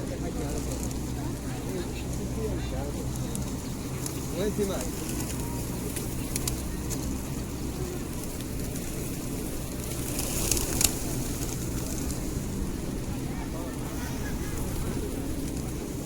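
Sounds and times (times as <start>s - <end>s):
low outdoor rumble: 0.0s - 16.0s
pigeons rustling flurry: 0.0s - 16.0s.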